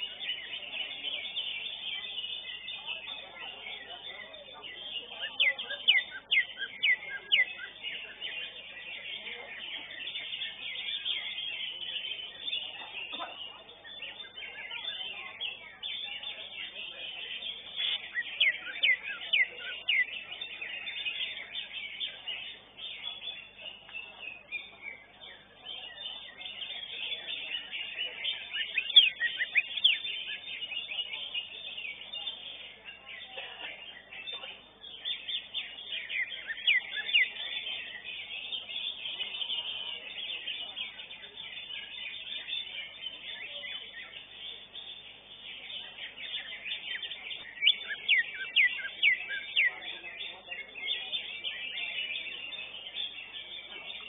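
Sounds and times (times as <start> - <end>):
birds chirping and chattering: 0.0 - 54.0.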